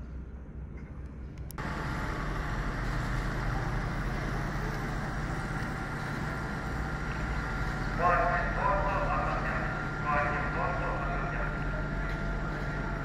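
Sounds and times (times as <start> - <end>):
faint steady whine: 0.0 - 13.0
ship machinery rumble: 1.1 - 13.0.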